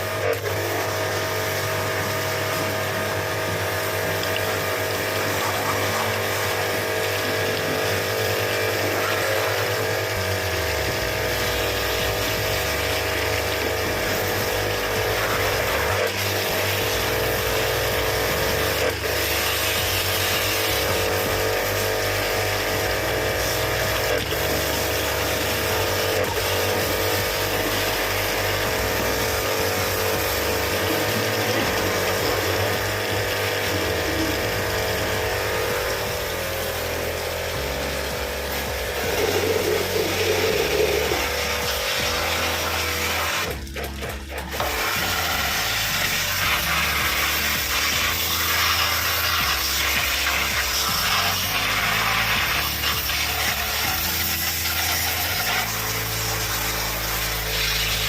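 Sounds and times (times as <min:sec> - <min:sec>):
electric pump motor running: 0:00.0 - 0:58.0
water spraying: 0:00.0 - 0:58.0.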